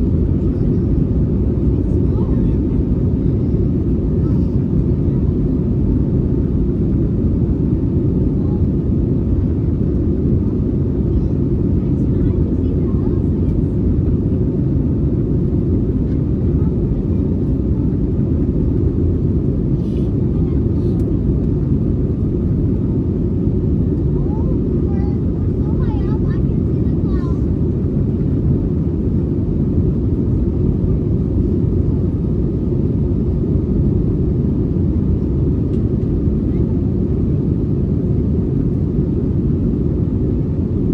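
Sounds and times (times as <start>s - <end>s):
jet engines deep rumble: 0.0s - 40.9s.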